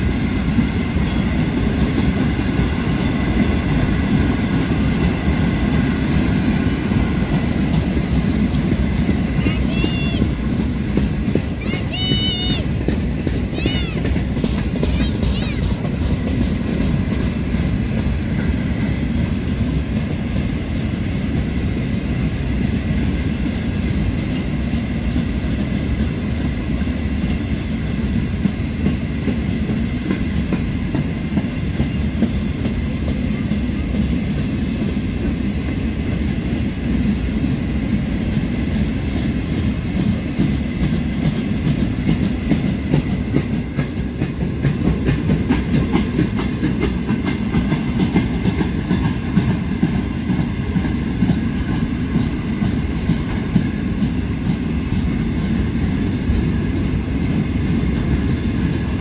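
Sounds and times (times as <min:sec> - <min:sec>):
clickety-clack over rail joints: 0:00.0 - 0:59.0
train wagons rolling past: 0:00.0 - 0:59.0.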